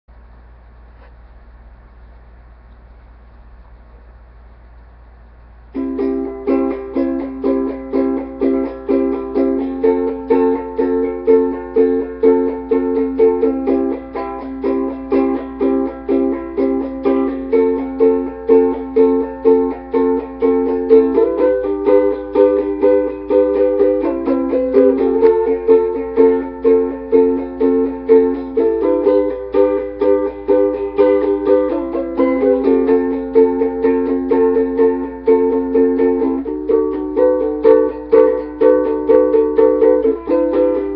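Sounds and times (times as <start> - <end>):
ukulele strumming: 5.7 - 40.9.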